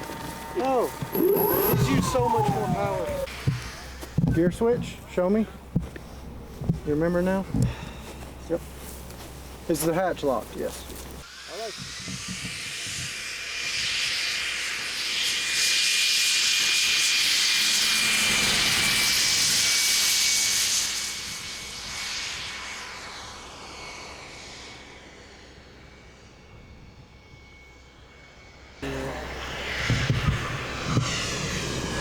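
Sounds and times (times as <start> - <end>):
model jet turbine engines: 0.0 - 8.5, 9.7 - 32.0.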